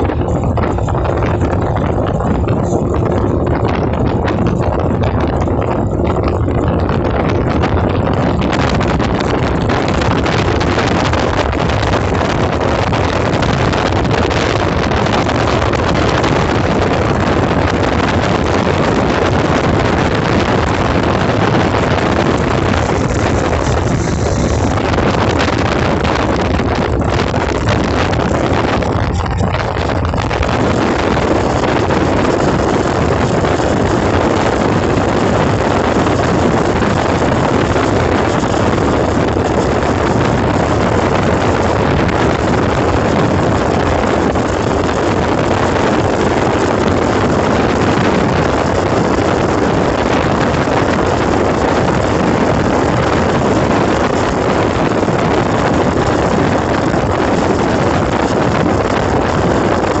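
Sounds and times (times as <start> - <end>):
motorboat engine: 0.0 - 60.0
water rushing along hull: 0.0 - 60.0
wind on microphone: 0.0 - 60.0.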